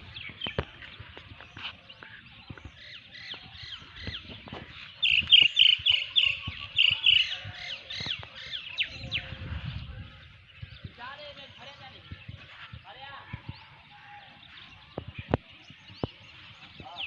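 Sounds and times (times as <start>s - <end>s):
birds calling sharply: 0.0s - 17.0s.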